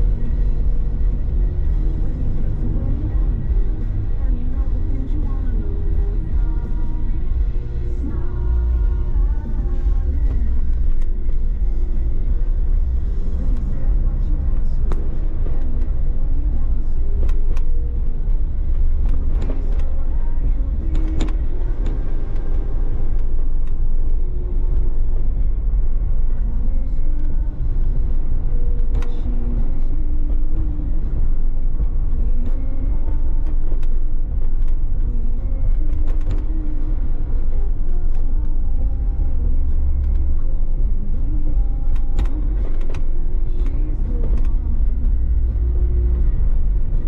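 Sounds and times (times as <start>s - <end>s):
car driving rumble: 0.0s - 47.0s.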